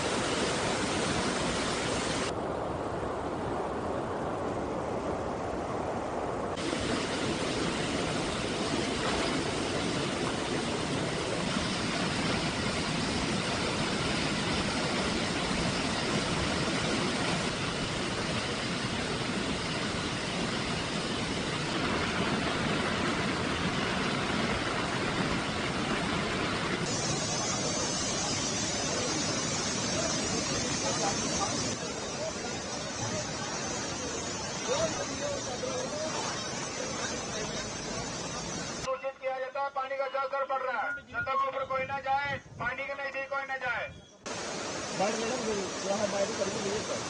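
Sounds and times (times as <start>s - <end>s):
rushing river water: 0.0s - 38.9s, 44.3s - 47.0s.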